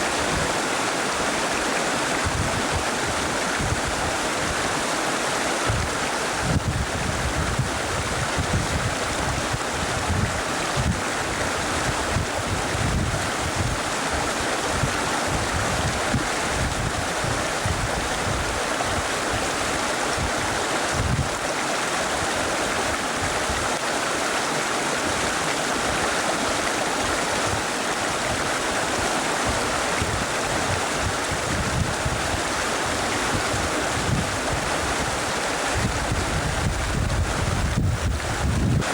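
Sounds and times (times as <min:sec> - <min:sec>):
river water rushing: 0:00.0 - 0:38.9
wind buffeting microphone: 0:02.2 - 0:04.7, 0:05.6 - 0:21.5, 0:25.1 - 0:38.9.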